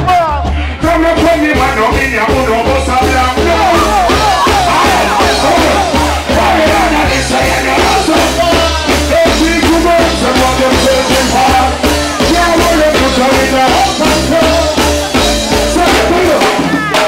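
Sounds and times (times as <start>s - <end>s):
heavy bass line: 0.0s - 17.0s
live reggae band playing: 0.0s - 17.0s.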